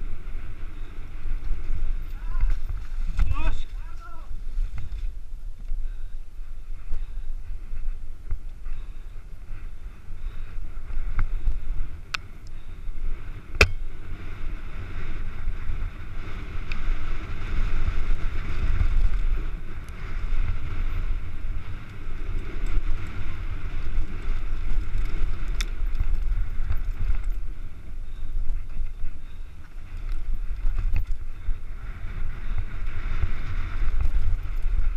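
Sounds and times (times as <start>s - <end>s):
bike tyres on gravel: 0.0s - 34.9s
wind buffeting camera: 0.0s - 34.9s.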